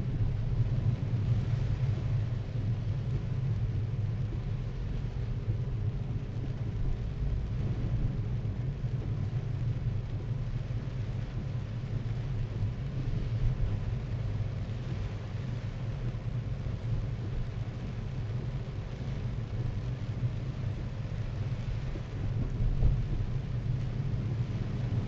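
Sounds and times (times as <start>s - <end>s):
rain and wet tyres hissing: 0.0s - 25.0s.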